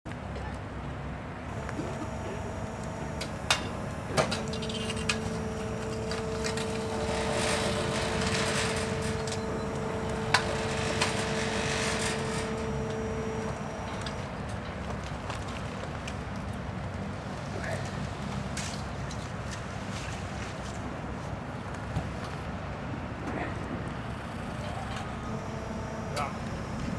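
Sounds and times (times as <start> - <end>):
steady hum: 1.3 - 18.3, 20.4 - 26.9.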